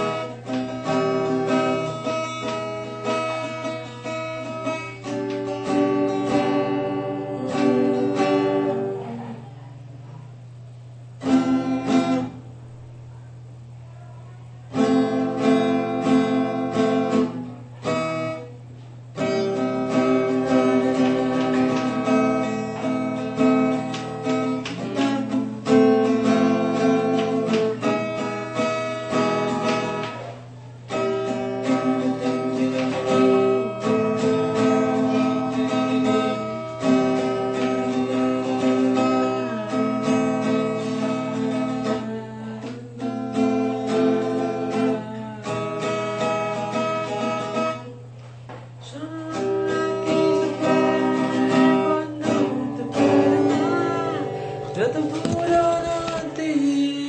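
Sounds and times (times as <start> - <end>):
acoustic guitar playing: 0.0 - 13.2, 14.0 - 57.0.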